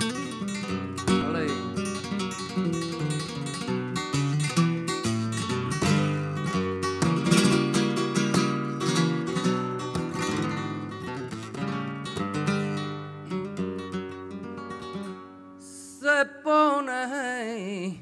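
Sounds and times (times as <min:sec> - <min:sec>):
solo flamenco guitar: 0:00.0 - 0:16.4.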